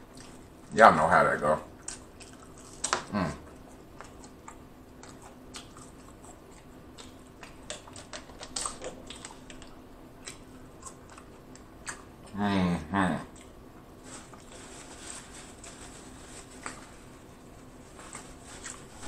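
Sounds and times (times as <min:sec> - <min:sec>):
person chewing fries: 0:00.0 - 0:00.7, 0:01.7 - 0:12.4, 0:13.3 - 0:19.0.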